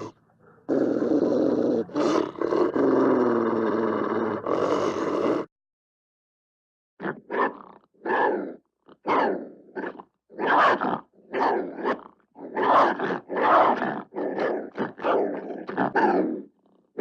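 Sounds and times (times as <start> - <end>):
wolf snarling and growling: 0.0 - 5.5, 7.0 - 17.0.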